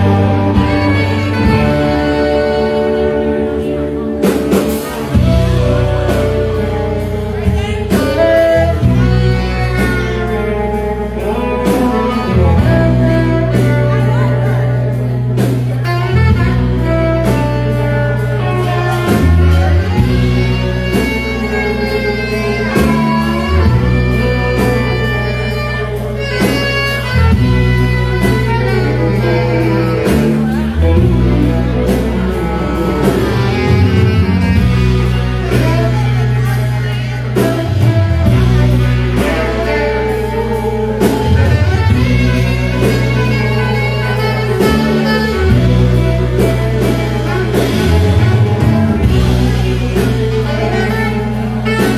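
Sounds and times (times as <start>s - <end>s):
drums: 0.0s - 51.9s
electric guitars: 0.0s - 51.9s
heavy bass: 0.0s - 51.9s.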